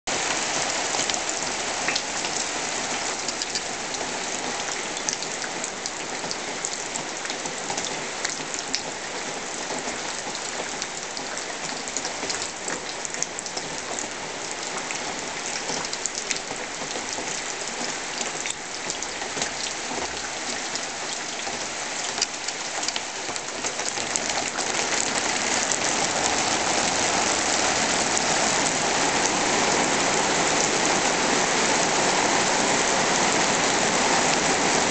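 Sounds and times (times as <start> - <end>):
rain on a plastic roof: 0.1 - 34.9.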